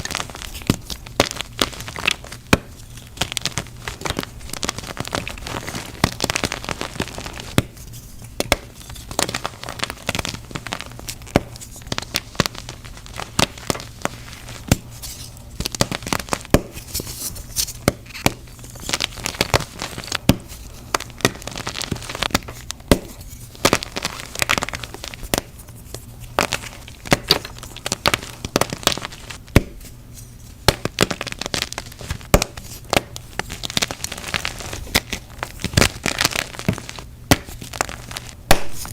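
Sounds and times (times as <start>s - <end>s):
chalk being crushed: 0.0s - 38.9s.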